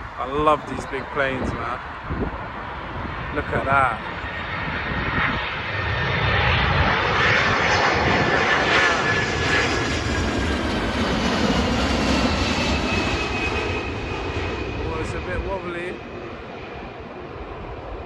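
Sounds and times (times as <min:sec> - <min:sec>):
high jet whine falling in pitch: 0:00.0 - 0:18.0
jet engines rushing past: 0:00.0 - 0:18.0
wind rumbling on microphone: 0:00.0 - 0:18.0.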